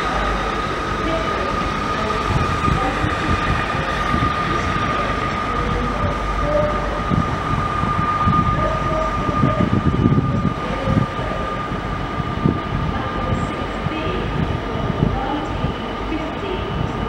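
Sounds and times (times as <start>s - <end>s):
diesel locomotive engine rumble: 0.0s - 17.0s
steady high-pitched tone: 0.0s - 17.0s.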